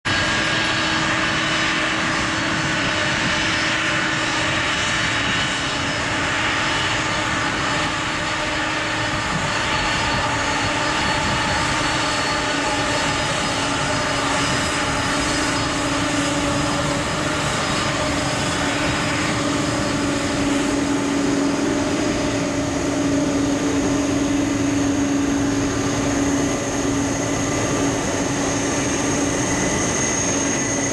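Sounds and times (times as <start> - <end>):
jet engines whining: 0.1 - 30.9.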